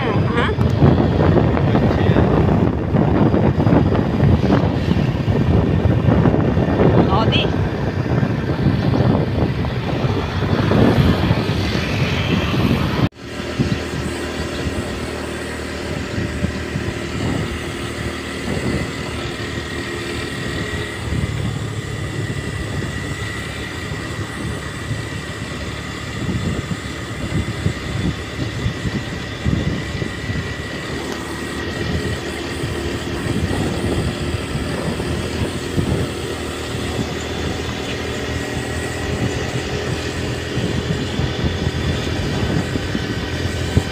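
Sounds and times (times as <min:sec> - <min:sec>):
vehicle motor and road hum: 0:00.0 - 0:43.9.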